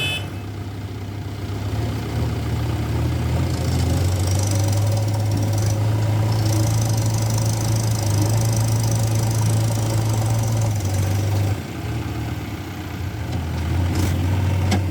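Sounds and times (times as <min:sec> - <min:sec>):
heavy diesel engine humming: 0:00.0 - 0:14.9.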